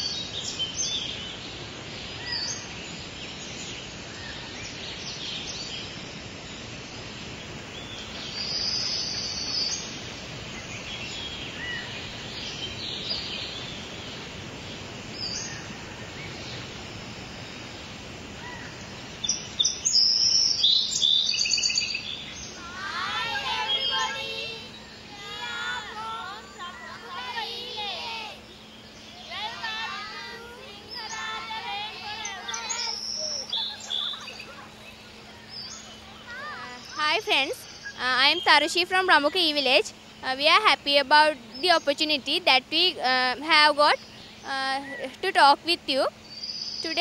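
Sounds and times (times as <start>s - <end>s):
forest birds chirping: 0.0s - 47.0s.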